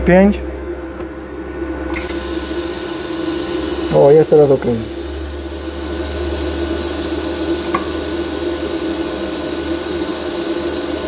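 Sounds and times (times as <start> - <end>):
welding arc hissing: 2.0 - 11.0.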